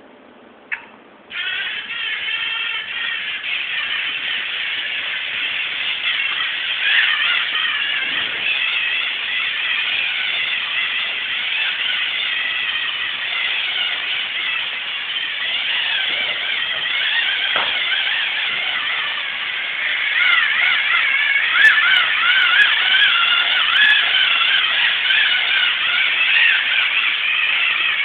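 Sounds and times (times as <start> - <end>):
servo motors whining: 3.0 - 28.0.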